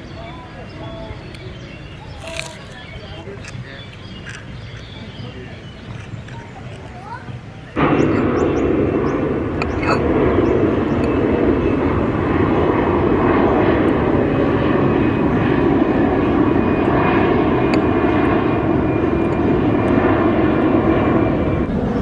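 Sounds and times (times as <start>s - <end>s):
airplane flying low overhead: 0.0s - 22.0s.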